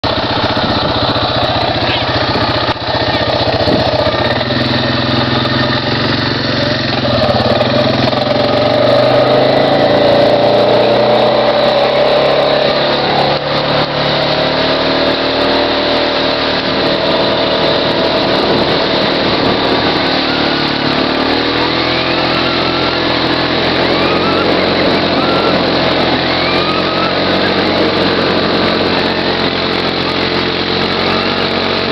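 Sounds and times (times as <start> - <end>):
atv engine running under load: 0.0 - 31.9.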